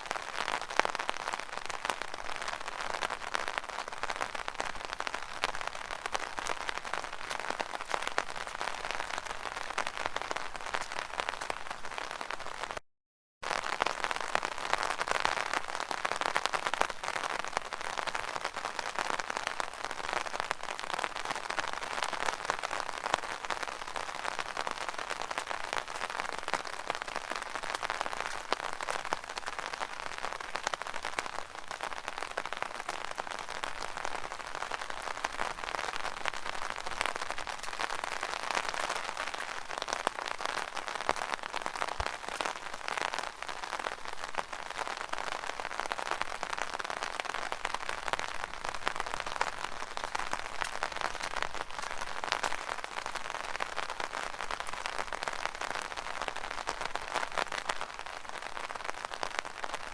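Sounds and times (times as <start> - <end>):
rain pattering on umbrella: 0.0 - 12.8, 13.4 - 59.9.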